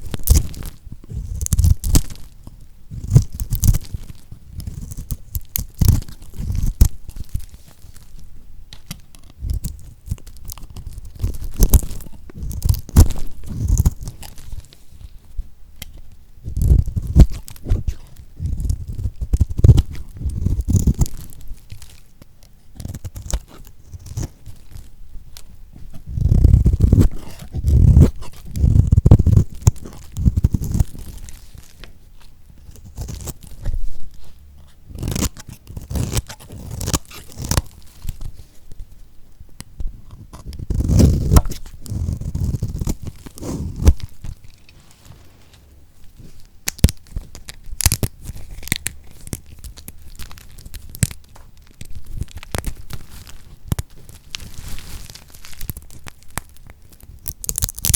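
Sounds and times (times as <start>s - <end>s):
knife cutting soap crackling: 0.0s - 15.2s, 15.8s - 38.9s, 39.6s - 44.8s, 45.6s - 57.9s.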